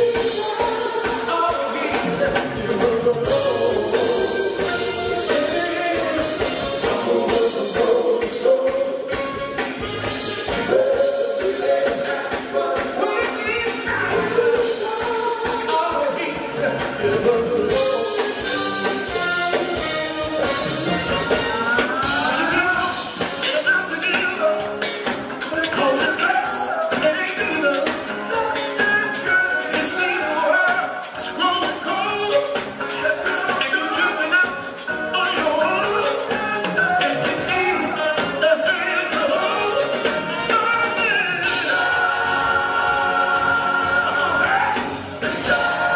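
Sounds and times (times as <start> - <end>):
male vocal group singing: 0.0 - 45.9
soul band with saxophone: 0.0 - 45.9.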